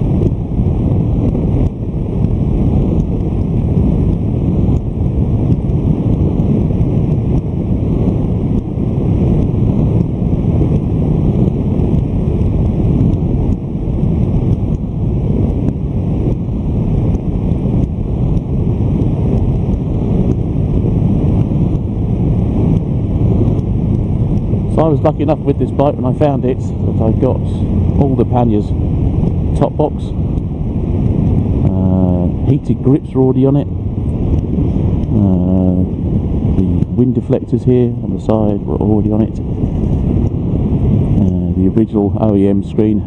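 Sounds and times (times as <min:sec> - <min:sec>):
motorcycle engine rumble: 0:00.0 - 0:43.0
wind on microphone: 0:00.0 - 0:43.0.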